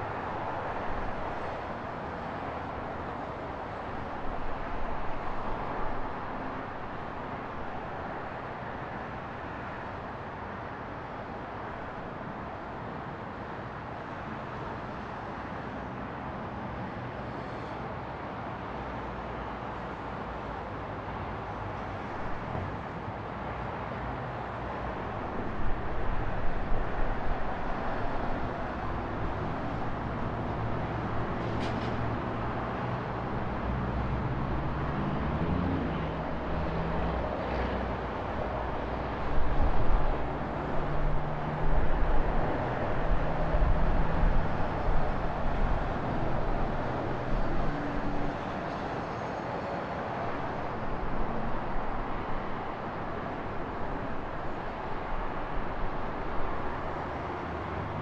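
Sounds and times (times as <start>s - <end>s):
passing vehicles: 0.0s - 58.0s.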